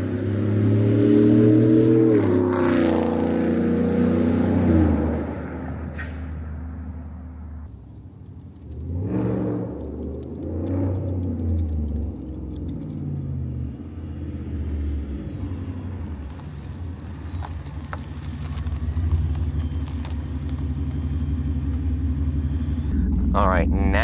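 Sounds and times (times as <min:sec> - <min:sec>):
truck engine exhaust rumble: 0:03.2 - 0:24.0.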